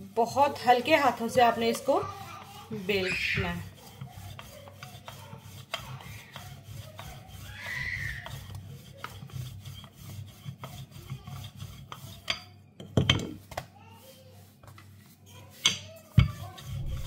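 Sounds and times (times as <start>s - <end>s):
rolling pin rolling dough: 0.0s - 17.0s.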